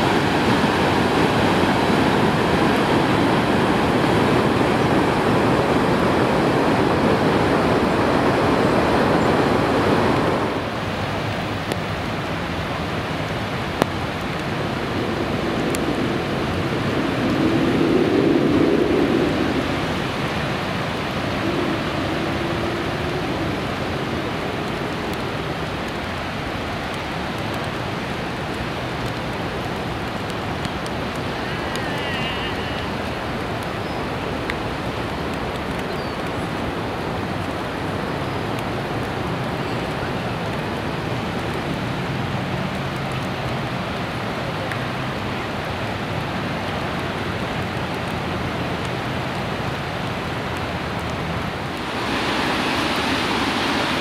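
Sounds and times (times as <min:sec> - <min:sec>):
floodwater rushing roar: 0:00.0 - 0:54.0.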